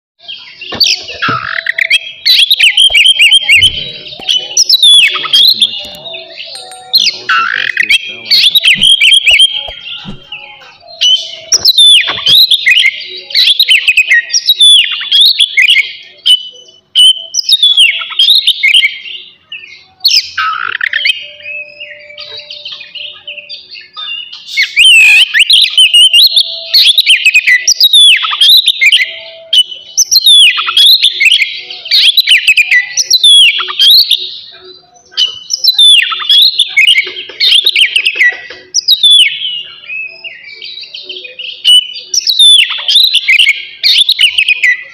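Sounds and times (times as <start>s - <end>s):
bird singing varied whistles: 0.2s - 44.9s.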